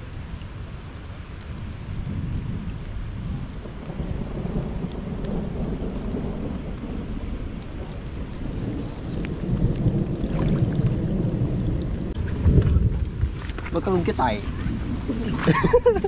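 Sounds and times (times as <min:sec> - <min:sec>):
distant thunder rumbling: 0:01.5 - 0:16.0.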